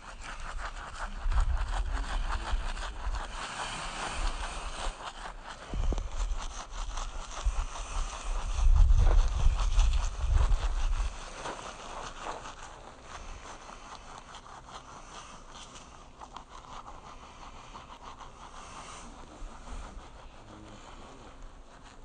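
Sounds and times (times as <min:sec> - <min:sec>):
toothbrush scrubbing teeth: 0:00.0 - 0:22.0.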